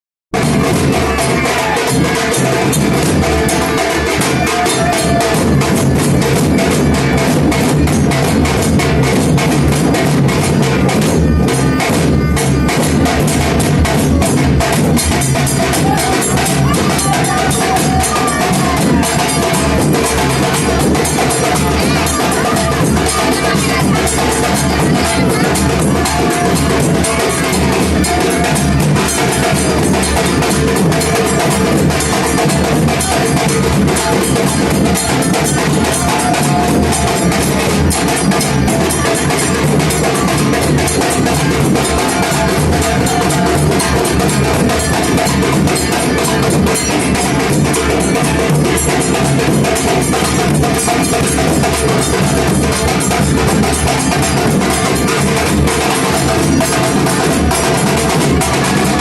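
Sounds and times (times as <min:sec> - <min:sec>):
music with loud drumming: 0:00.3 - 0:59.0.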